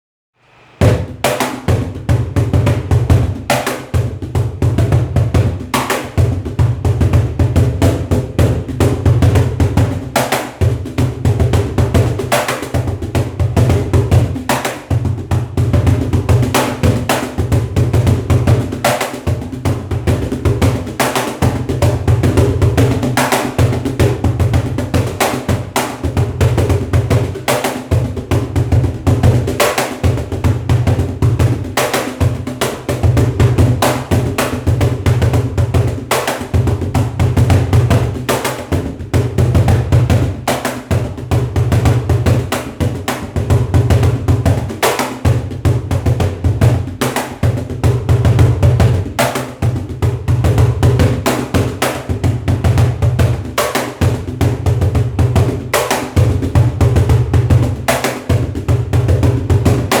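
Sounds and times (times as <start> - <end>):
cajon bass thumps: 0.8 - 60.0
cajon sharp slaps: 0.8 - 60.0.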